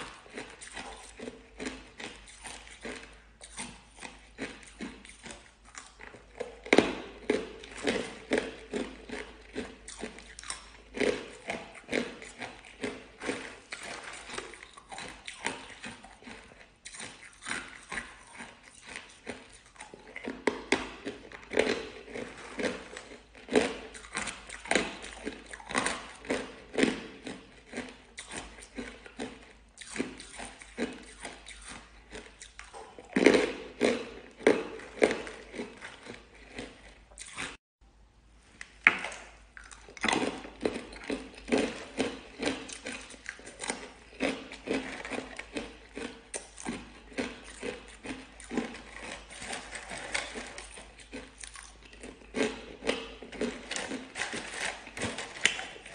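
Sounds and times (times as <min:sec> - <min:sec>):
ice crunching being chewed: 0:00.0 - 0:37.6, 0:38.6 - 0:55.9.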